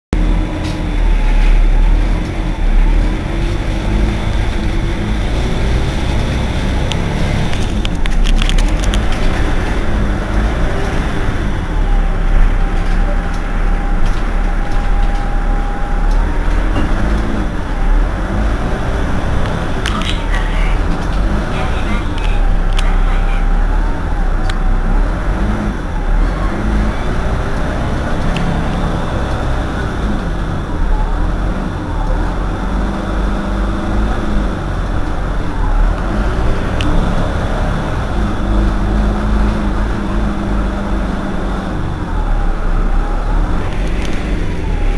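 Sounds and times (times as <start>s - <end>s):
bus engine idling: 0.1s - 44.9s.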